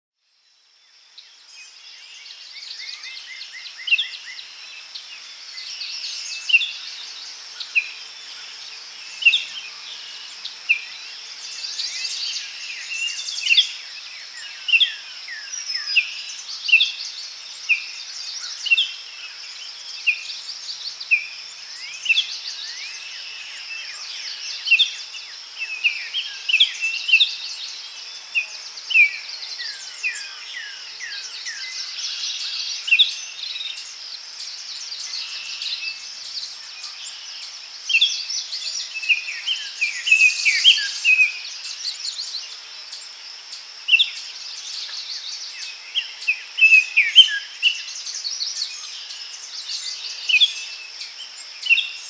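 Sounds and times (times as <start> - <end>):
birds singing: 0.9 - 52.0.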